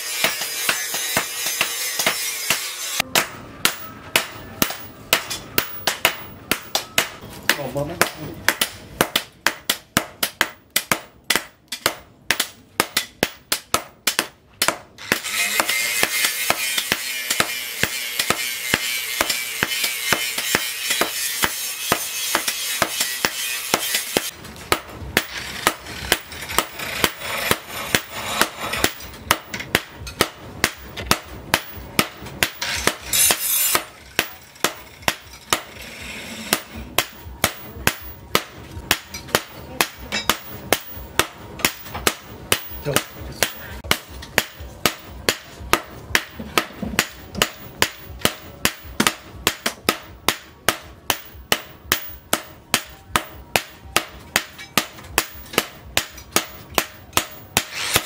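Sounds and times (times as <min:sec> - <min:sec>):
hammer blows on anvil: 0:00.0 - 0:14.0, 0:14.6 - 0:58.0.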